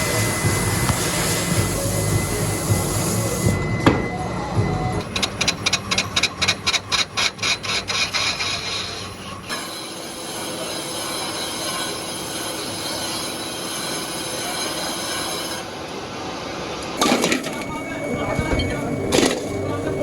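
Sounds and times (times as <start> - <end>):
high metallic squeal: 0.0 - 15.8, 17.0 - 20.0.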